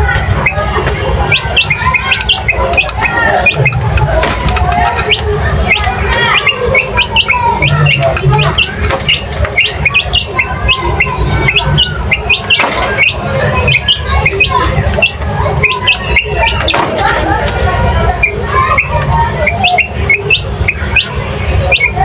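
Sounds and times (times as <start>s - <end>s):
flock of birds chirping: 0.0s - 22.0s.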